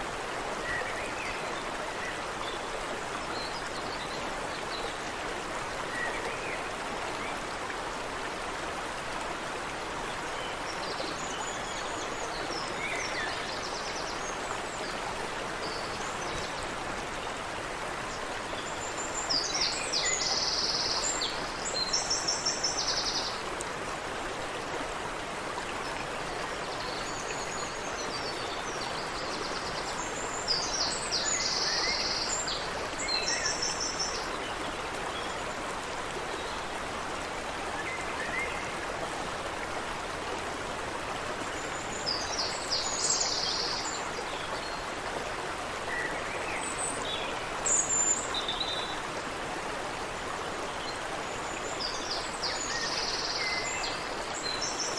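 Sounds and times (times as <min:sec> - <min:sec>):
stream water over rocks: 0:00.0 - 0:54.9.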